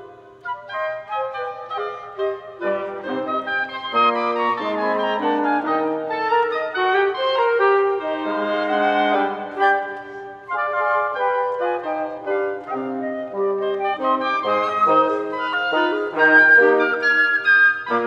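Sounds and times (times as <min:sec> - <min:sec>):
wind quintet playing dance music: 0:00.0 - 0:18.0.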